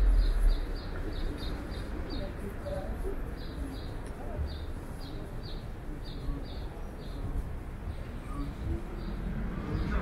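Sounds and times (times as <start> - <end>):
street background noise: 0.0 - 10.0.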